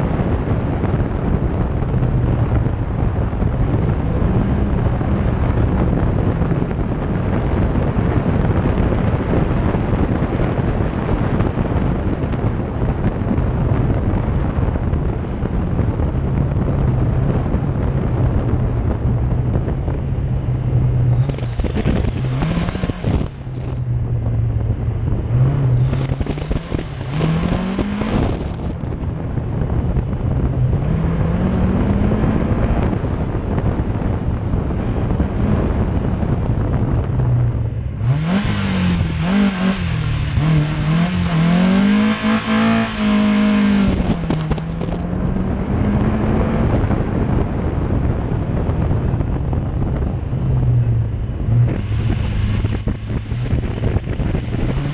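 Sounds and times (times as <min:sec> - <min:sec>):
car engine running hard: 0:00.0 - 0:54.9
wind on the microphone: 0:00.0 - 0:54.9.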